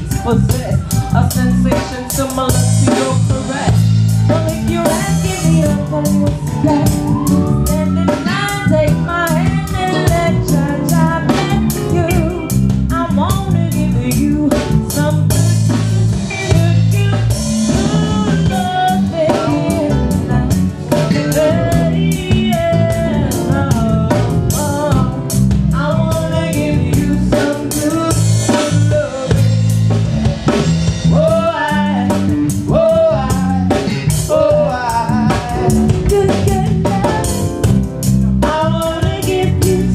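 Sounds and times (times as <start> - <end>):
person singing: 0.0 - 30.0, 31.0 - 37.8, 38.4 - 39.9
drum kit: 0.0 - 39.9
guitar: 0.0 - 39.9.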